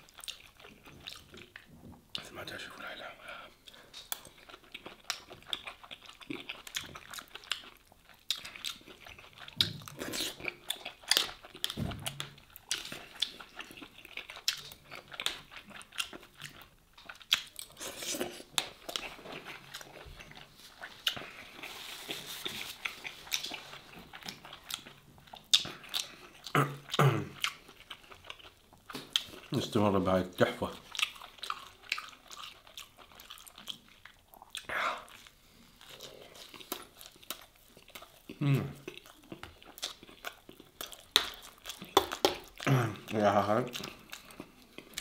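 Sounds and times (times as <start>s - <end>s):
close chewing: 0.0s - 45.0s.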